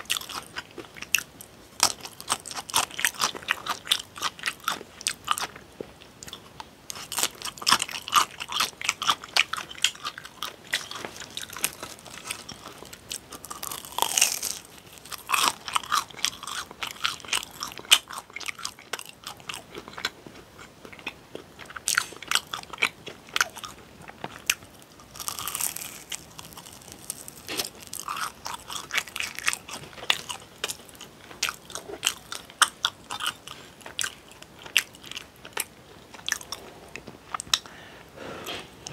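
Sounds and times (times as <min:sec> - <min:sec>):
crunching bites and chewing: 0:00.0 - 0:05.6, 0:06.2 - 0:36.7.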